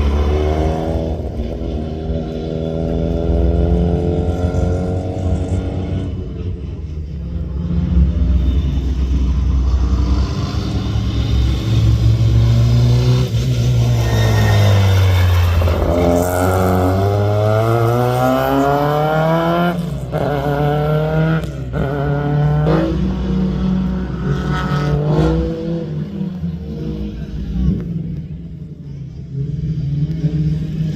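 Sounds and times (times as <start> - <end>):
rally car engine: 0.0 - 30.9.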